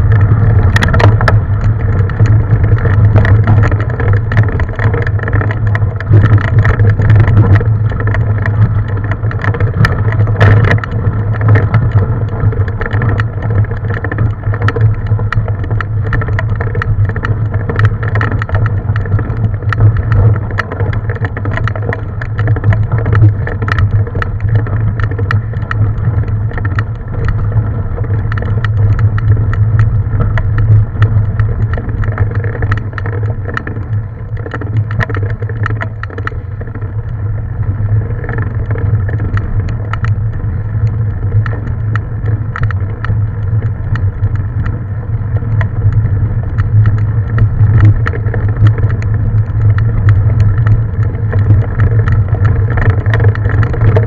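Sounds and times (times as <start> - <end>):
bike clicks and rattles: 0.0 - 54.0
bike riding hum: 0.0 - 54.0.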